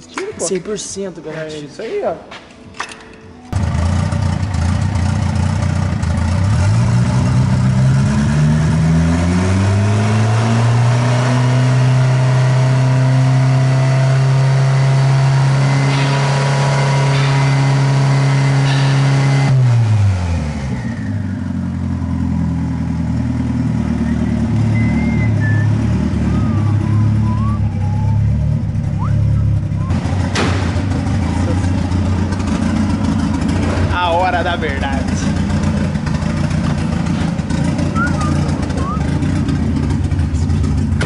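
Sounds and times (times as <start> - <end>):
car engine revving and idling: 3.6 - 41.0.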